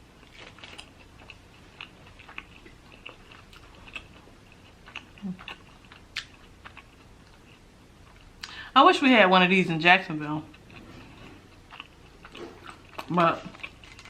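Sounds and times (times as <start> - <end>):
close chewing: 0.2 - 8.5, 10.5 - 14.0.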